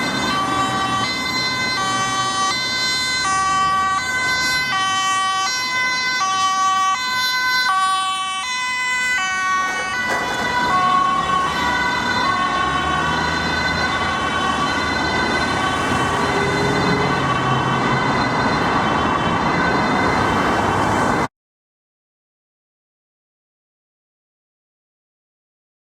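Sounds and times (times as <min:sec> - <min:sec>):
two-tone siren: 0:00.0 - 0:21.3
tyre and engine noise: 0:00.0 - 0:21.3.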